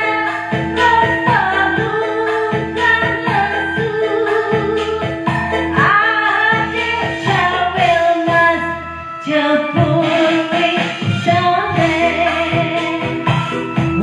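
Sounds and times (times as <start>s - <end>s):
instrumental backing music: 0.0s - 14.0s
woman singing with vibrato: 0.0s - 14.0s.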